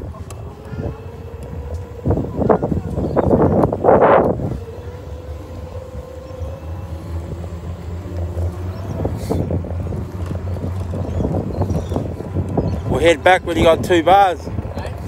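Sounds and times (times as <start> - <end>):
electric scooter hum: 0.0 - 15.0.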